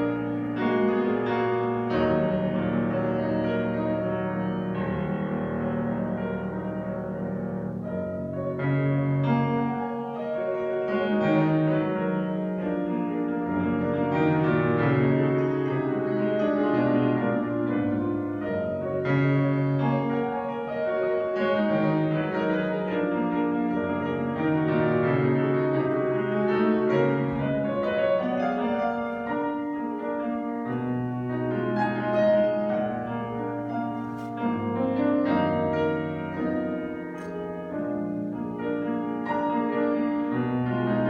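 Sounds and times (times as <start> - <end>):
classical piano music: 0.0 - 41.0.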